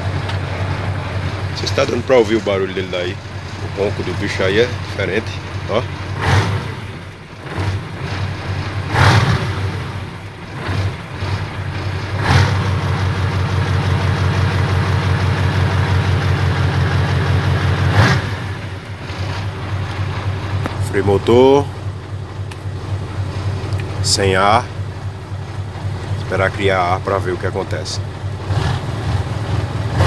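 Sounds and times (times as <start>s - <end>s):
diesel truck engine revving: 0.0s - 30.0s.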